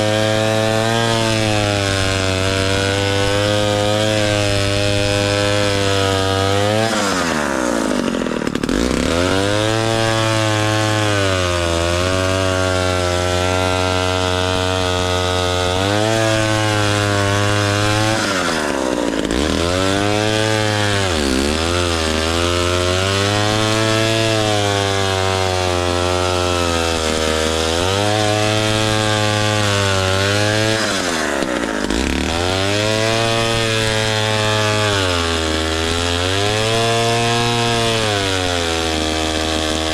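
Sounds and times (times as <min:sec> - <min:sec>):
chainsaw engine running at high speed: 0:00.0 - 0:39.9.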